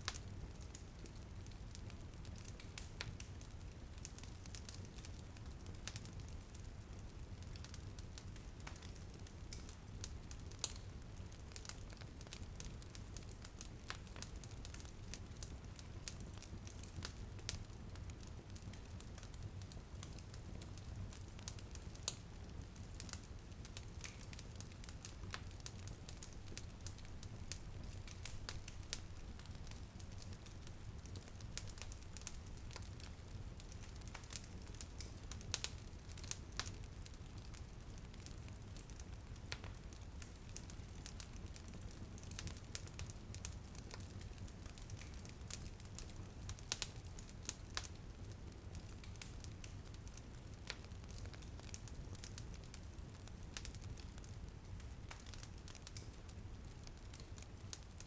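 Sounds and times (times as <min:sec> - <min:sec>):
light rain: 0:00.0 - 0:58.0
wood fire crackling and popping: 0:00.0 - 0:58.0.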